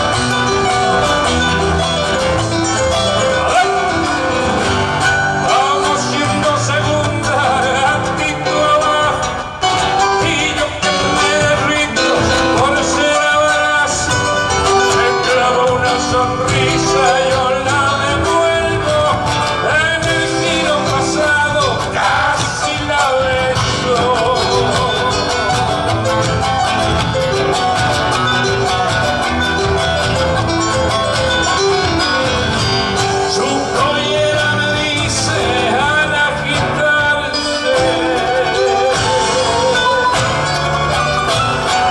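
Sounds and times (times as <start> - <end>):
folk guitars: 0.0 - 41.9
person singing: 0.0 - 41.9.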